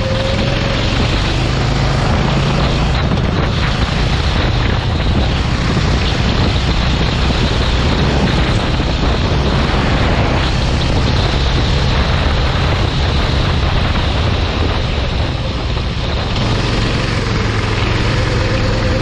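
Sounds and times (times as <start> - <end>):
dense rushing noise: 0.0 - 19.0
kart engine running: 0.0 - 19.0.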